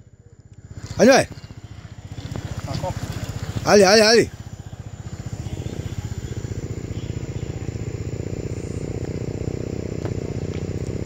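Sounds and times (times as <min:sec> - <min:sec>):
vehicle engine throbbing: 0:00.0 - 0:11.0
thin high whine: 0:00.6 - 0:11.0.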